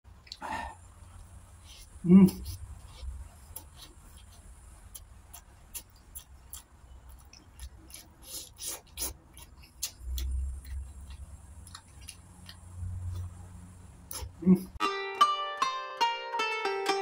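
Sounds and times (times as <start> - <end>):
chewing: 0.2 - 14.7.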